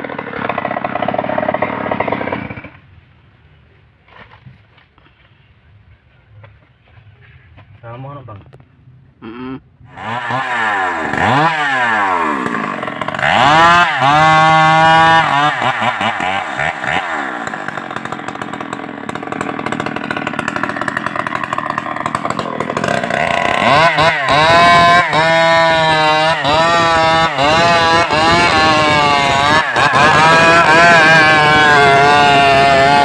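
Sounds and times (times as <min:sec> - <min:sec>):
chainsaw revving: 0:00.0 - 0:02.8, 0:09.2 - 0:33.0.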